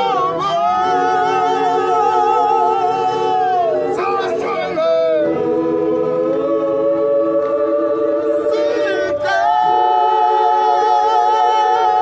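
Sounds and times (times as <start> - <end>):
gospel choir singing a cappella: 0.0 - 12.0.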